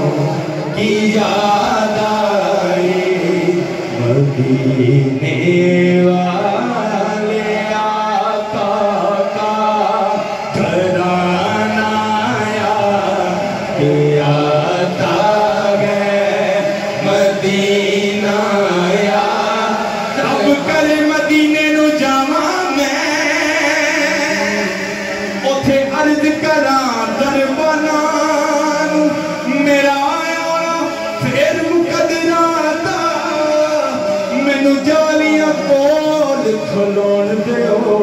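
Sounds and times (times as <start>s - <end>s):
men chanting unaccompanied: 0.0s - 38.0s.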